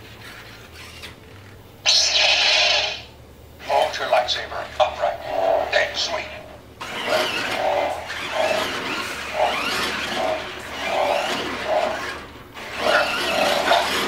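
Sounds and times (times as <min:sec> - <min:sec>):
toy motors and gears whirring: 0:00.0 - 0:04.1, 0:05.2 - 0:14.0.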